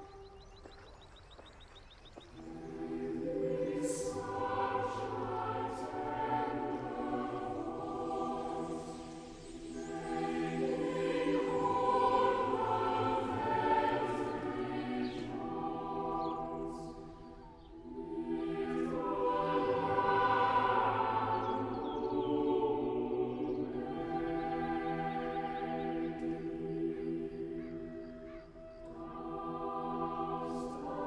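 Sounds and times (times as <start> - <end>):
choir singing: 0.0 - 0.5, 2.4 - 31.0.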